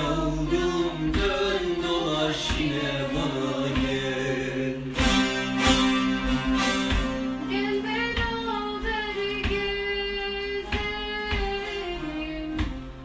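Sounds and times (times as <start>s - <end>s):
lutes plucking and strumming: 0.0s - 13.0s.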